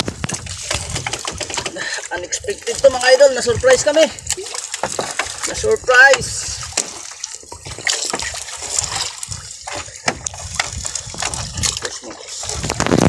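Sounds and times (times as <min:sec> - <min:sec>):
fishing net hauled from sea: 0:00.0 - 0:13.0
seawater streaming and splashing: 0:00.0 - 0:13.0.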